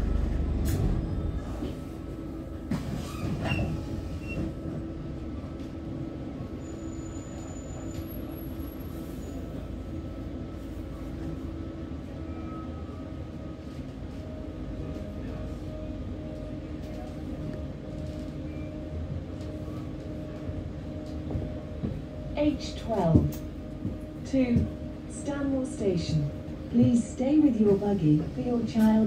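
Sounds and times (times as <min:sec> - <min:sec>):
bus engine low rumble: 0:00.0 - 0:29.0.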